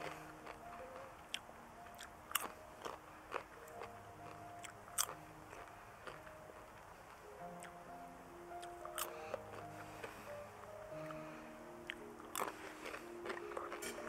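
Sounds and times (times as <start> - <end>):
popcorn chewing crunches: 0.0 - 7.8, 8.5 - 10.3, 10.9 - 14.0
soft background music: 0.0 - 14.0.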